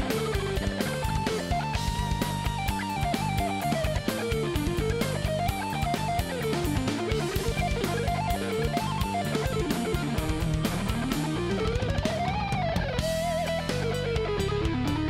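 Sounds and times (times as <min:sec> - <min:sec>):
electric guitar background music: 0:00.0 - 0:15.0.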